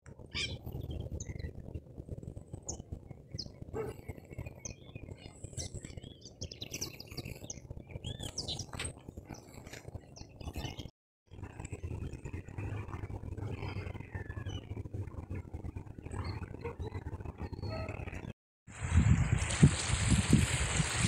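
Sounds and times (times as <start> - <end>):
small birds chirping: 0.2 - 10.9, 12.0 - 18.3.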